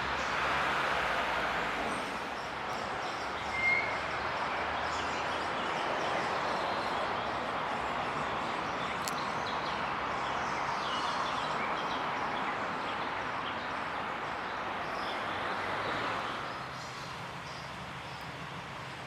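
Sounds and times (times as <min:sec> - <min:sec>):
rushing traffic noise: 0:00.0 - 0:19.0.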